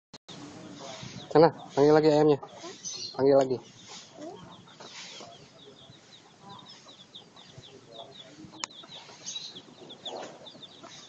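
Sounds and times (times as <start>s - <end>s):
chicks peeping: 0.3s - 11.0s
hen clucking: 0.4s - 11.0s.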